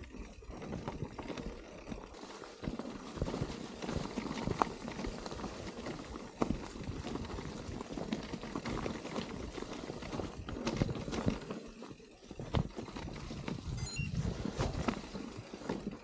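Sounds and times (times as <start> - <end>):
bike rattling on rocky trail: 0.0 - 16.0.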